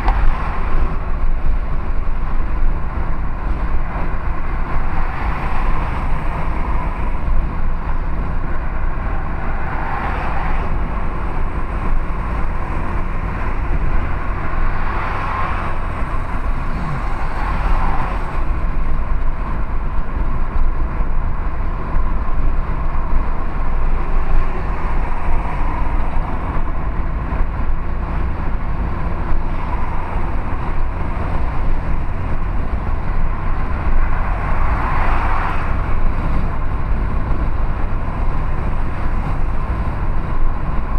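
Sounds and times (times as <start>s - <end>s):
car road and engine noise: 0.0s - 40.9s.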